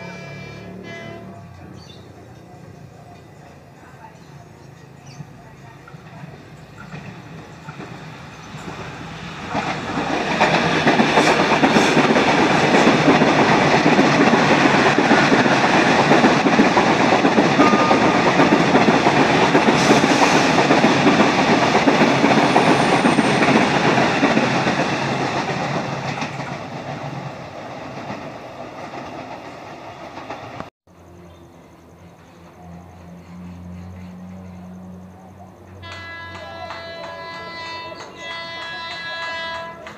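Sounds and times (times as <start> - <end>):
train wheels running on rails: 1.5 - 30.7, 31.8 - 39.9.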